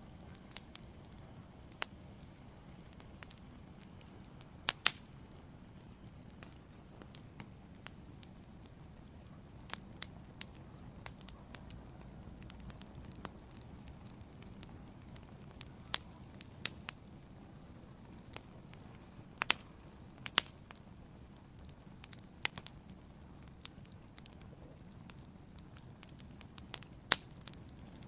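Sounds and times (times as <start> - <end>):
fire crackles and pops: 0.0 - 28.0
wood fire hissing: 0.0 - 28.0.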